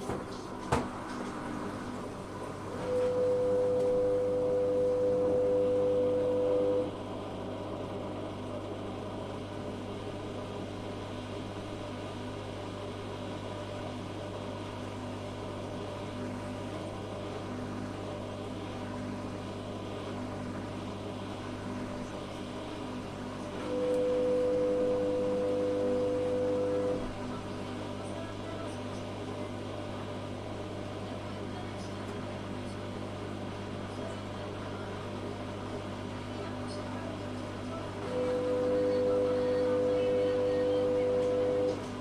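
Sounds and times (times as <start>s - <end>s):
washing machine motor whine: 0.0s - 42.0s
low steady hum: 0.1s - 42.0s.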